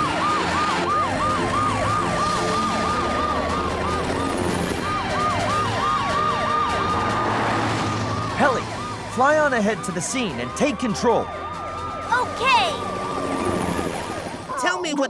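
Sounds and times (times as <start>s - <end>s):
steady siren wail: 0.0s - 14.5s
fast yelping siren: 0.0s - 15.0s.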